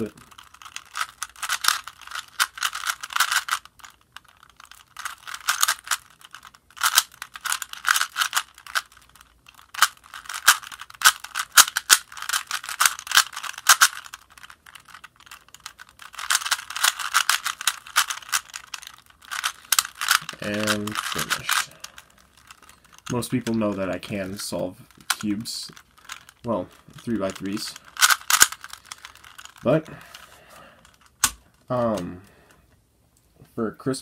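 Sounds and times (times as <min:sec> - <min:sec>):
puzzle cube plastic clicking: 0:00.0 - 0:32.1.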